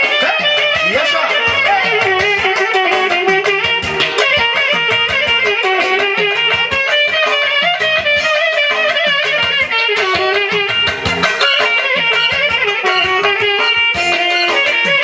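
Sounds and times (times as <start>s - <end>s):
lively plucked guitar music: 0.0s - 15.0s.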